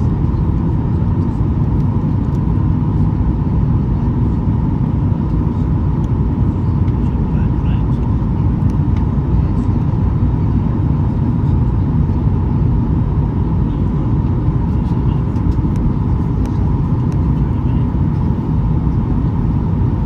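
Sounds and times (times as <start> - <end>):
jet engine roar in cabin: 0.0 - 20.0
steady high whine: 0.0 - 20.0.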